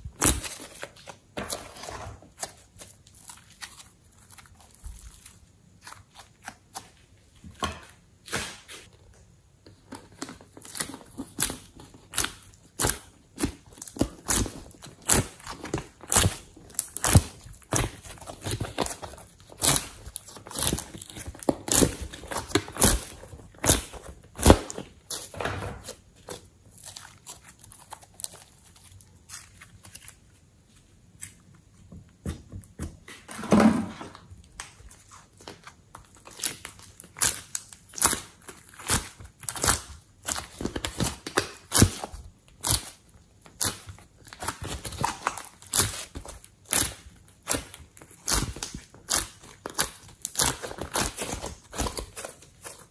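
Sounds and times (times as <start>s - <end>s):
slime squelch: 0.0s - 7.4s, 9.8s - 33.4s, 34.1s - 52.9s.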